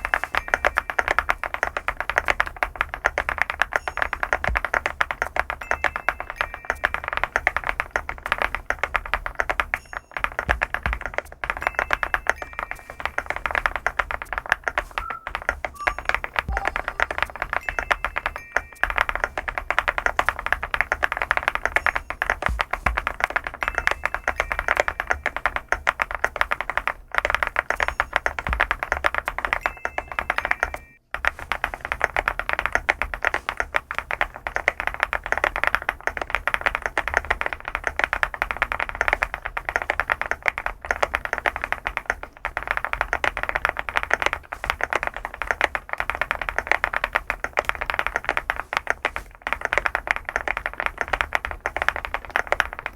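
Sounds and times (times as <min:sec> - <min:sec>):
mechanical keyboard typing: 0:00.0 - 0:52.9.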